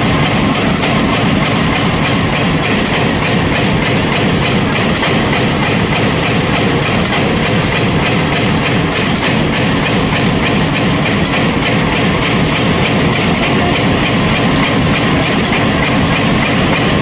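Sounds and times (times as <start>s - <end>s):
mechanical din: 0.0s - 17.0s
press machine stamping: 0.0s - 17.0s.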